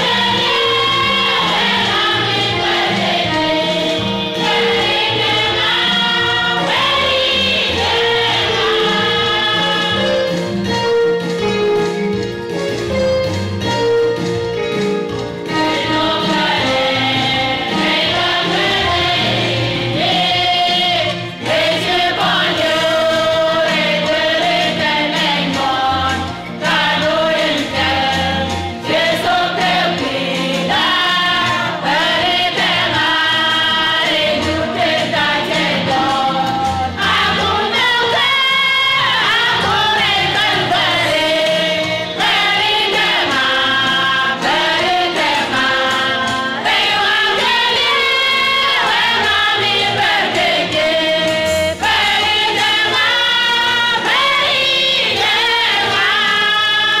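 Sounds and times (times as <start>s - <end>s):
women's choir singing gospel: 0.0s - 11.5s, 14.6s - 57.0s.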